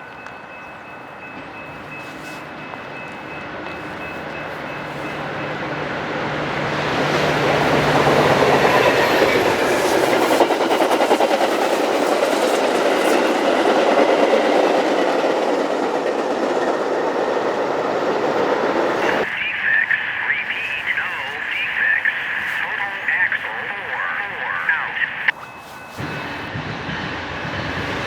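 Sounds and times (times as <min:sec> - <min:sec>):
train wheels rumbling over rails: 0:00.0 - 0:19.3, 0:20.2 - 0:28.0.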